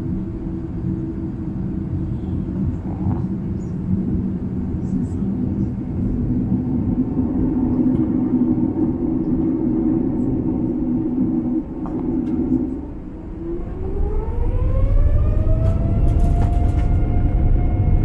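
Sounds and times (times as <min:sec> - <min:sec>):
jet engines rumbling in cabin: 0:00.0 - 0:18.0.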